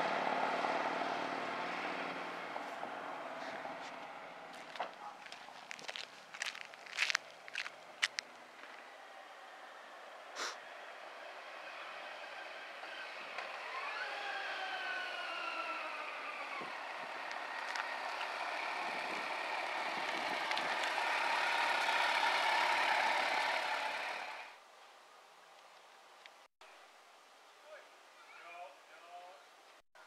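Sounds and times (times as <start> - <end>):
motorcycle engine approaching: 0.0 - 24.6.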